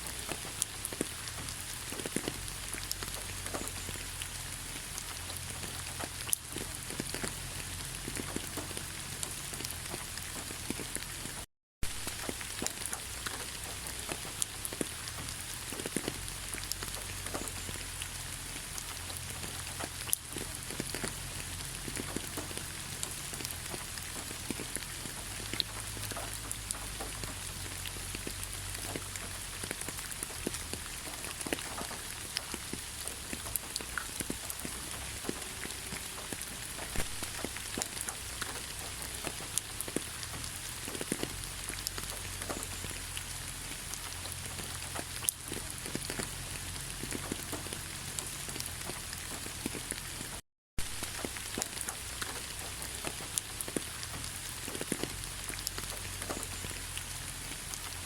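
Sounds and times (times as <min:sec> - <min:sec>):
raindrops ticking close by: 0:00.0 - 0:58.0
steady rain hissing: 0:00.0 - 0:58.0.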